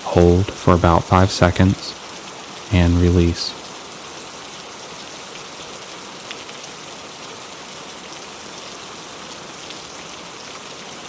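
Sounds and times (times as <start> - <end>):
gentle rain falling: 0.0 - 11.0.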